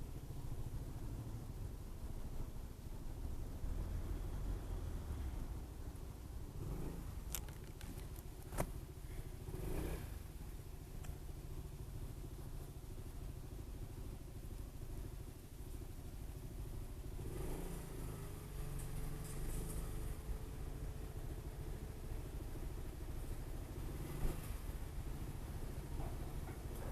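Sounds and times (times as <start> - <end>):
road and wind rumble: 0.0 - 26.9.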